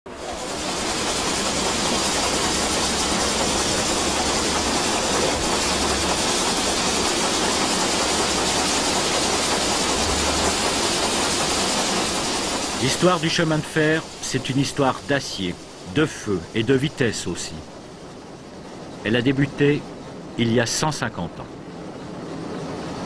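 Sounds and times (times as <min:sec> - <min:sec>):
steam locomotive hissing: 0:00.1 - 0:23.0
train wheels rumbling: 0:00.1 - 0:23.0.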